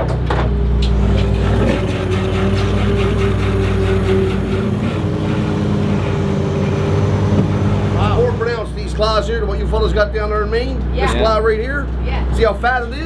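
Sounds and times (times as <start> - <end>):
boat engine running: 0.0 - 13.0
hydraulic hauler whine: 0.0 - 13.0.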